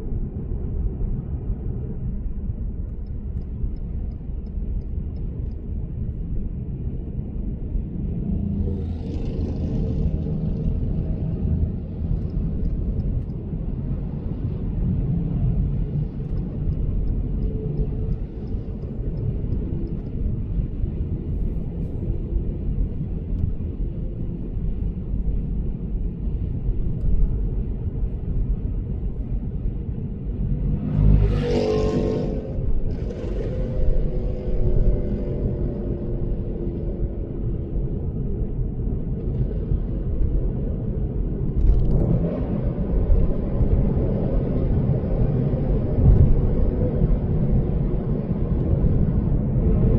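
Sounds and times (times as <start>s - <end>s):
road and tyre rumble: 0.0s - 49.9s.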